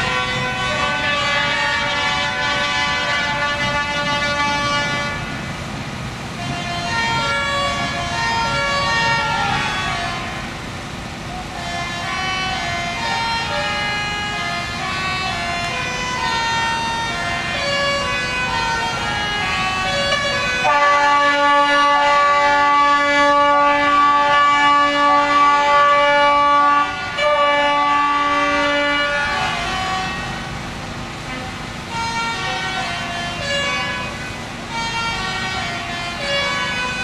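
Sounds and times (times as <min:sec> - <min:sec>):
truck air horns blaring: 0:00.0 - 0:37.0.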